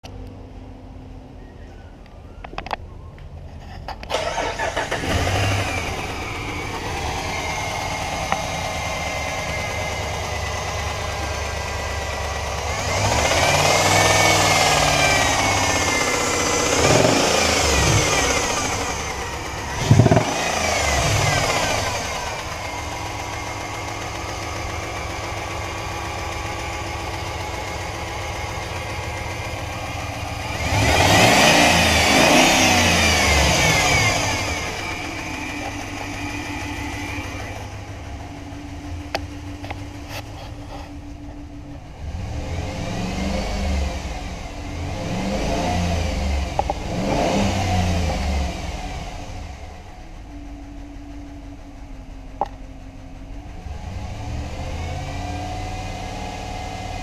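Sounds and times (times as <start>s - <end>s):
truck engine idling and revving: 0.0s - 57.0s.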